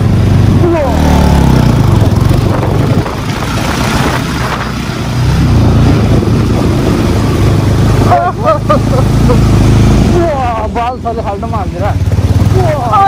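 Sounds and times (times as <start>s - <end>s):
rushing noise: 0.0s - 10.6s
motorcycle engine running: 0.0s - 13.0s.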